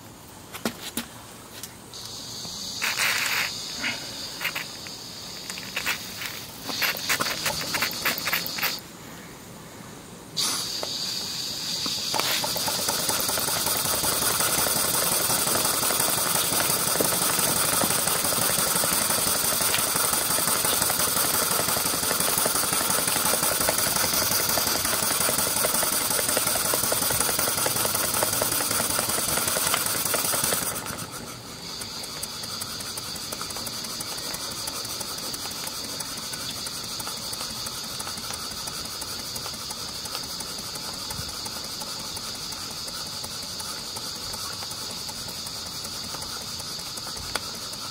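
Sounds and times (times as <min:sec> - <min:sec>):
model steam engine hissing: 0:02.0 - 0:08.9, 0:10.4 - 0:47.9.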